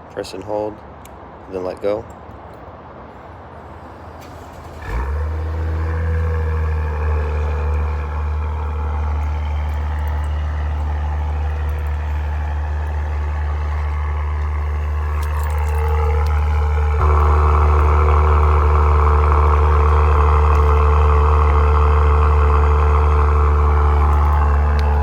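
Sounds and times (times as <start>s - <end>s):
car engine starting and idling: 3.7s - 25.0s.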